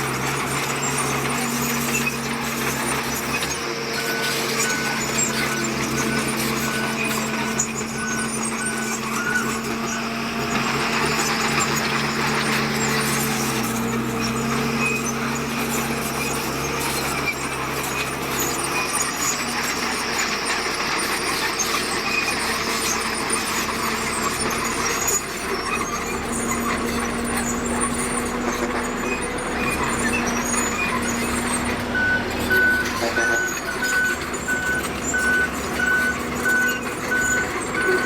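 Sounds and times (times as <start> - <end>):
diesel engines running: 0.0 - 38.0
high-pitched squeaks: 0.0 - 38.0.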